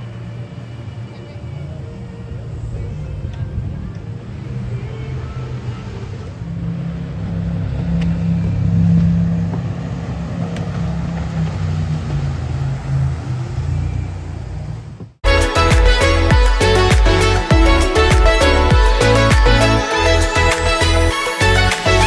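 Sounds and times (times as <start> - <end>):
boat engine passing: 0.0 - 22.0.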